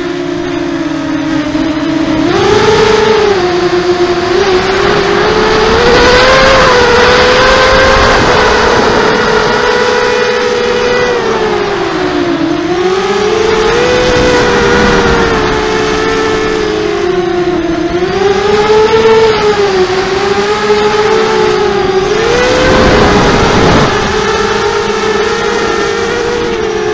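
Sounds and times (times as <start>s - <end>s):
drone motors and propellers whining: 0.0s - 26.9s
wind on microphone: 0.0s - 26.9s.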